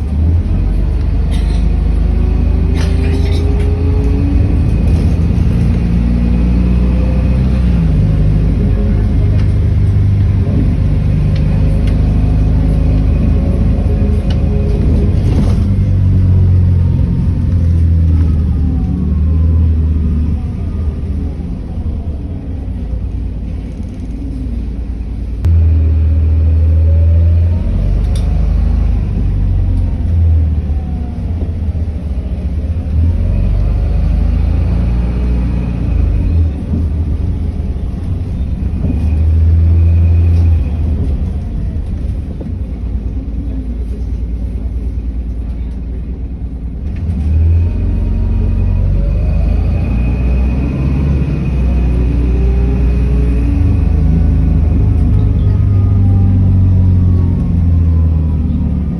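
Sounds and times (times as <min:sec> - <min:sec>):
bus engine rumble: 0:00.0 - 0:58.9
bus engine whine: 0:00.0 - 0:58.9.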